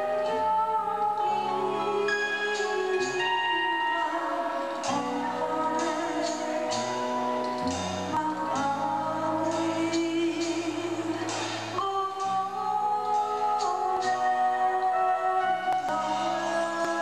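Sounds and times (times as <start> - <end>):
band music: 0.0 - 17.0
bass: 0.0 - 17.0
woman singing into a microphone: 0.0 - 17.0.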